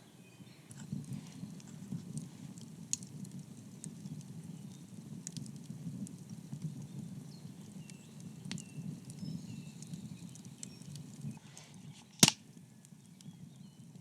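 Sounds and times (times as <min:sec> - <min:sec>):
low rumble of flame: 0:00.0 - 0:14.0
wood fire crackling and popping: 0:00.6 - 0:14.0.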